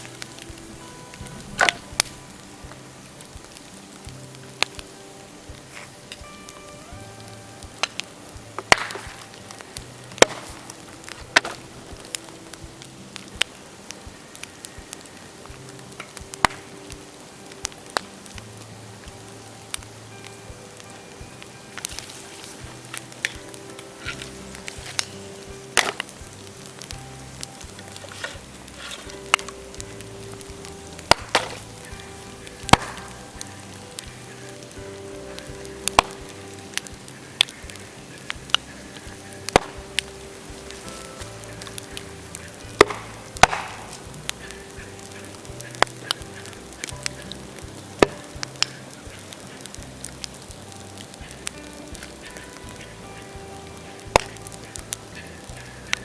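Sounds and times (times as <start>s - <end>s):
bamboo cracking and popping: 0.0s - 56.0s
light fire crackling: 0.0s - 56.0s
soft background music: 0.0s - 56.0s.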